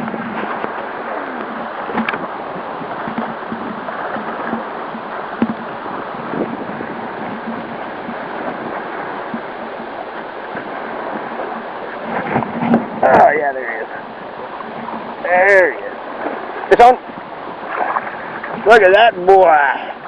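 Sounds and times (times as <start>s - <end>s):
waves splashing against kayak: 0.0s - 20.0s
wind on microphone: 0.0s - 20.0s.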